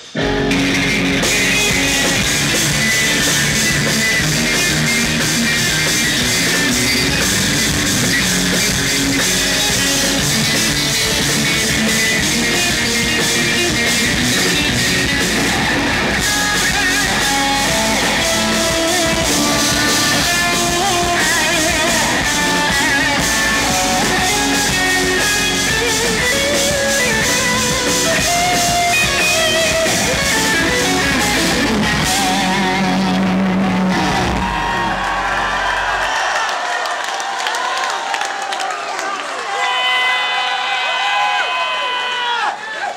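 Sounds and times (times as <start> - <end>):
drum kit: 0.0 - 36.2
electric guitars playing fast runs: 0.0 - 36.2.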